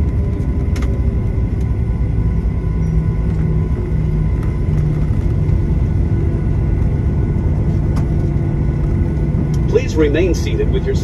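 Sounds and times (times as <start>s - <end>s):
airliner cabin rumble: 0.0s - 11.0s
faint jet engine whine: 0.0s - 11.0s.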